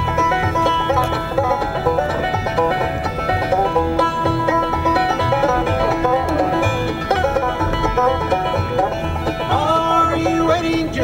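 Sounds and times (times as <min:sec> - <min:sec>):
banjo picking: 0:00.0 - 0:11.0
steady bass pulse: 0:00.0 - 0:11.0.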